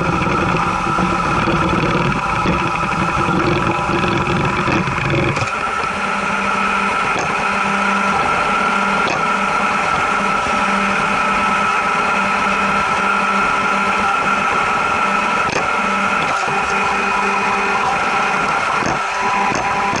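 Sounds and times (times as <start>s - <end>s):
high steady whine: 0.0s - 20.0s
low hum: 0.0s - 20.0s
robot vacuum whirring: 0.0s - 20.0s.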